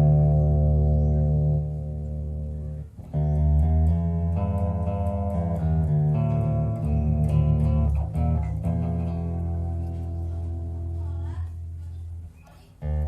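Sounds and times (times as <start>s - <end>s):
bass string clicks: 0.0s - 13.0s
electric bass guitar notes: 0.0s - 13.0s.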